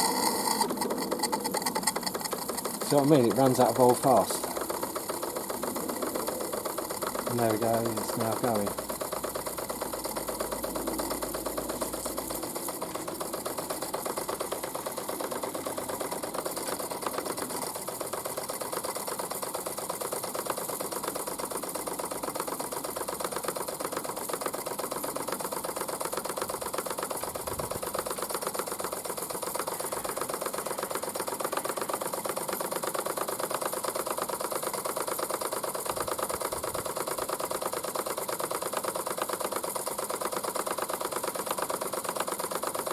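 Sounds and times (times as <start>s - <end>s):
model steam engine chuffing: 0.0s - 42.9s
steam hissing: 0.0s - 42.9s.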